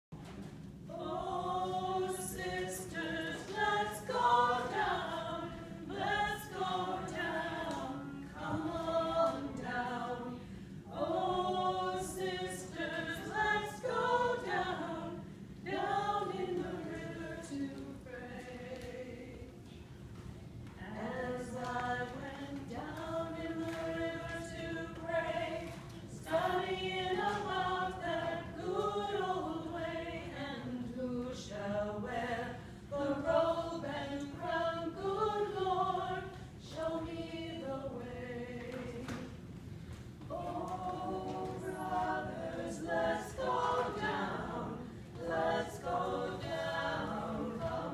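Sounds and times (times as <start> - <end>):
church choir singing: 0.8 - 19.5, 20.8 - 39.5, 40.2 - 47.9.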